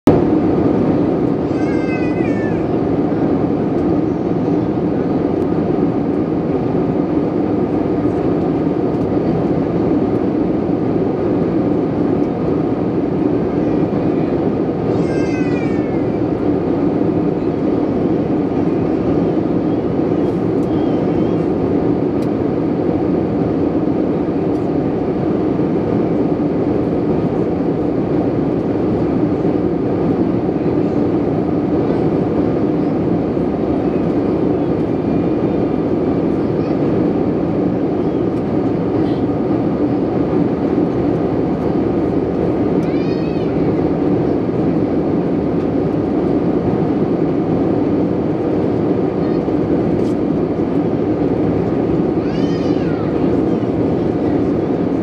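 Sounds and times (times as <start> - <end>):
airliner cabin noise: 0.0 - 55.0.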